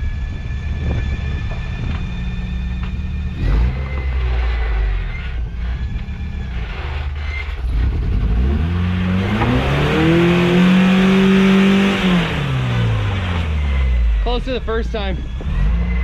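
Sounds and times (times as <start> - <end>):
pickup truck engine revving: 0.0 - 16.0.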